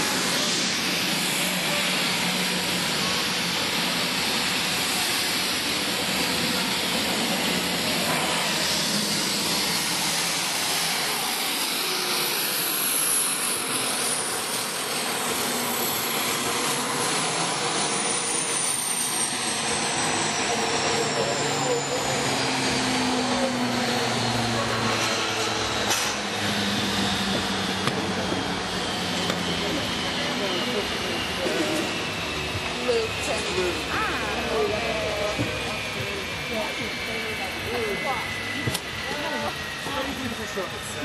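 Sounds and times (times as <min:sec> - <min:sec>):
high engine whine: 0:00.0 - 0:41.0
turboprop engines roaring: 0:00.0 - 0:41.0.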